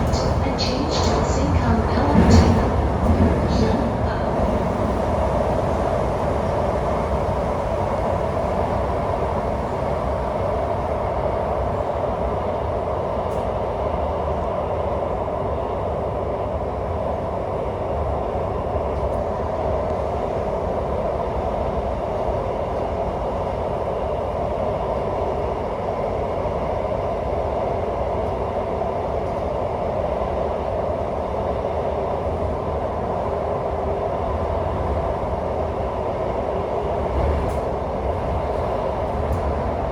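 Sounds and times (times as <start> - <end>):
metro train wheels and motors: 0.0 - 39.9.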